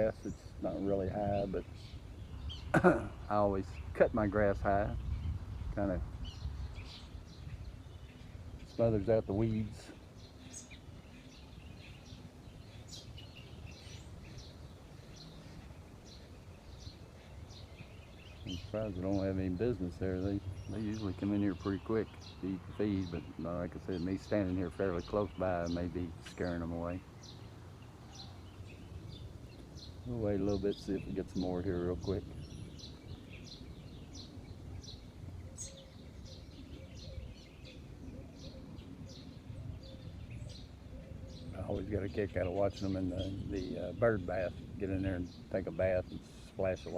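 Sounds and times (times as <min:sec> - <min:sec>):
faint outdoor background hum: 0:00.0 - 0:46.9
small songbirds chirping: 0:00.0 - 0:46.9.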